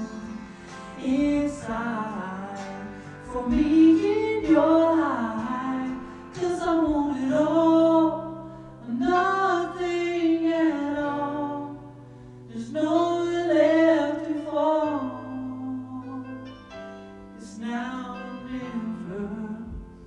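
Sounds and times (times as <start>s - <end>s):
man singing with vibrato: 0.0s - 16.6s, 17.3s - 20.0s.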